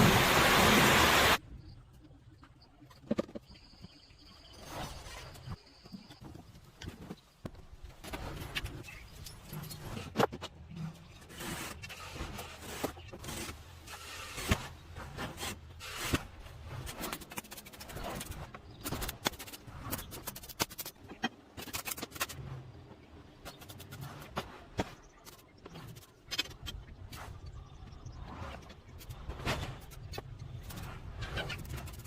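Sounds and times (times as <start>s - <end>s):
scraping with clicks and knocks: 4.6s - 32.0s.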